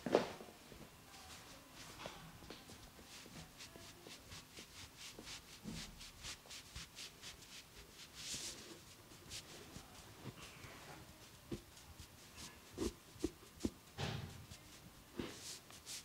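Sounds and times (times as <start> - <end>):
hands rubbing swishing: 2.6 - 16.0.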